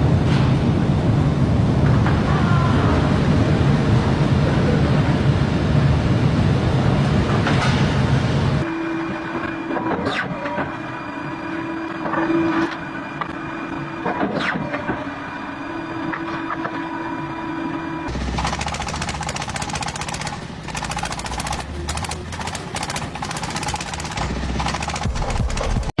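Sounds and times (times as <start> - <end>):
factory machinery rumbling: 0.0 - 26.0
steady mechanical hum: 0.0 - 26.0.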